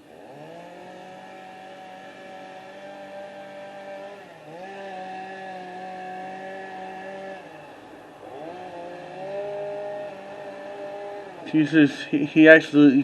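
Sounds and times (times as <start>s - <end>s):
small engine running at high revs: 0.0s - 13.0s.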